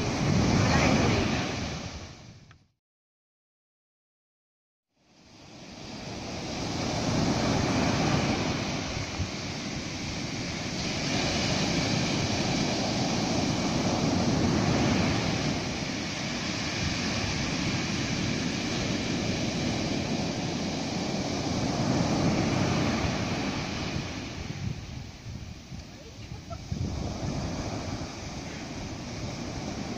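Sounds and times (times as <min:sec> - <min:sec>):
ocean surf breaking: 0:00.0 - 0:02.3, 0:05.2 - 0:29.9
wind buffeting microphone: 0:00.0 - 0:02.4, 0:05.6 - 0:29.9.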